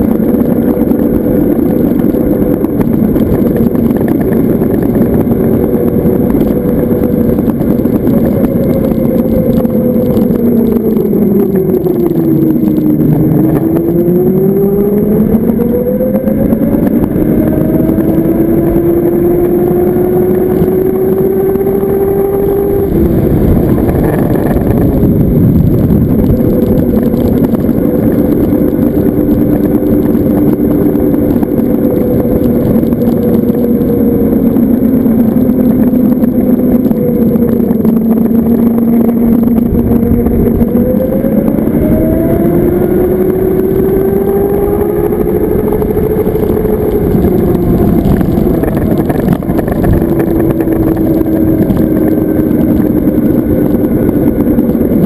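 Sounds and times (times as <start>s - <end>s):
electric motor whine: 0.0s - 55.0s
road noise: 0.0s - 55.0s
wind rushing over microphone: 0.0s - 55.0s.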